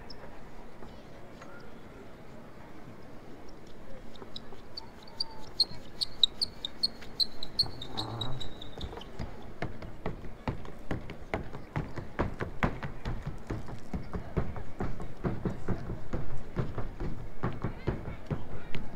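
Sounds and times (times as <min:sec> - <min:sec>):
street ambience: 0:00.0 - 0:18.9.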